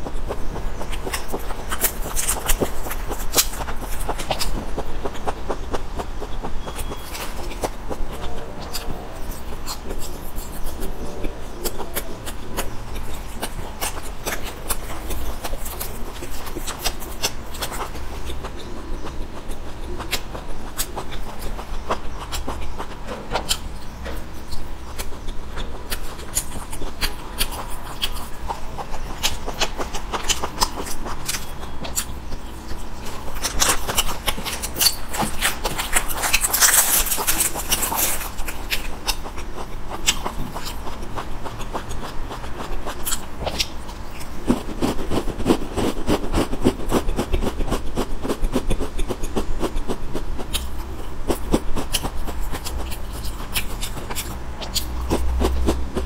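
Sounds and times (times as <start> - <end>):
person chewing snacks: 0.0 - 56.0.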